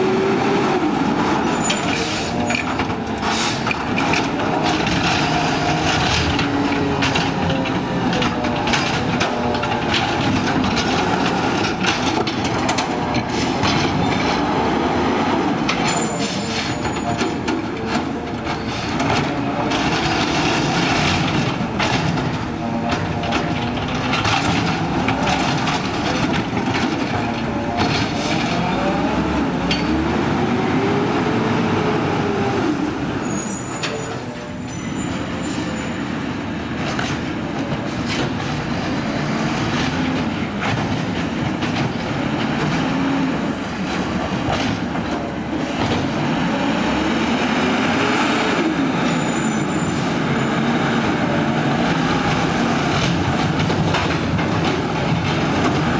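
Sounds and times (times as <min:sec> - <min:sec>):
garbage truck engine revving: 0:00.0 - 0:33.6, 0:36.2 - 0:55.9.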